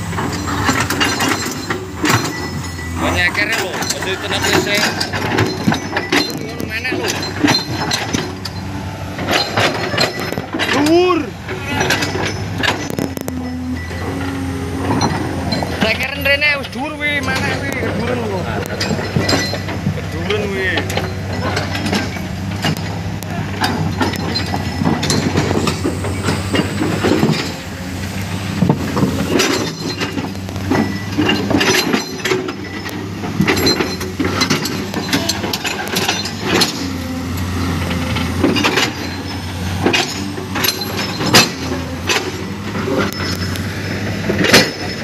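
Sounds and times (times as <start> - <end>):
clanks of rock and metal: 0.0 - 45.0
diesel engine running: 0.0 - 45.0.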